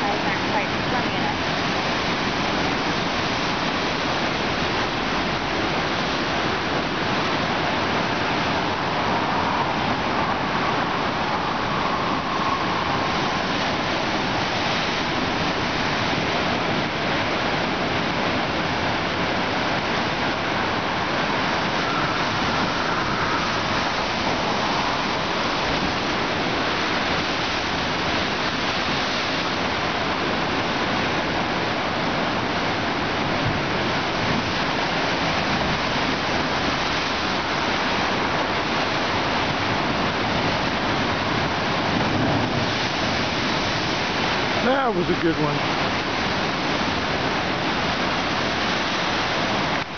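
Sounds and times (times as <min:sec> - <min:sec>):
surf churning among rocks: 0:00.0 - 0:49.9.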